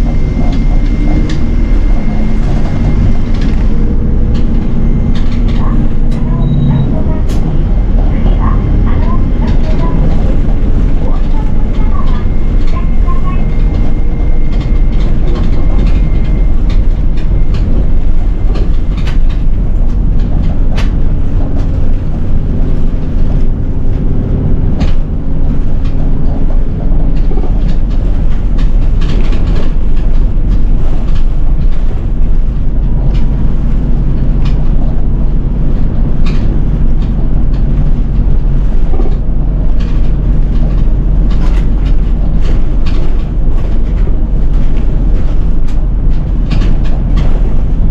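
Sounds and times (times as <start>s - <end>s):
bodywork rattles and clicks: 0.0s - 47.9s
bus diesel engine: 0.0s - 47.9s
road noise: 0.0s - 47.9s.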